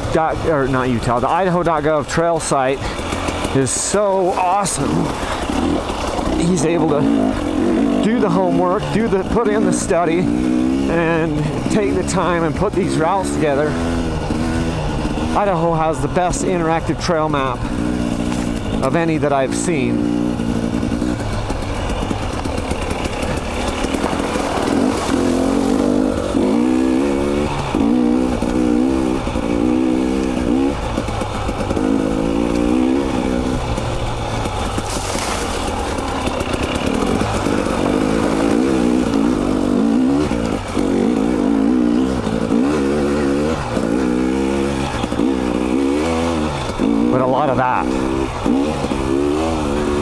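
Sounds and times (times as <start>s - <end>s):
two-stroke dirt bike engine revving: 0.0s - 50.0s.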